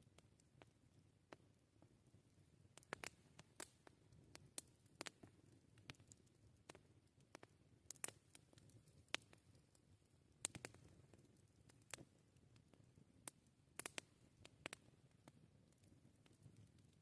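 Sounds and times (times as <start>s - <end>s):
campfire pops and snaps: 2.7s - 17.0s.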